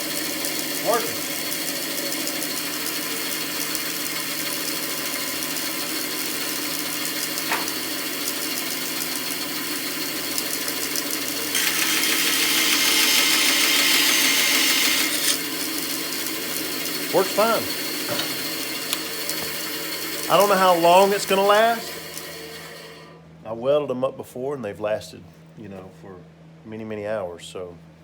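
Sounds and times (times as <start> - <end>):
bandsaw running: 0.0 - 23.2.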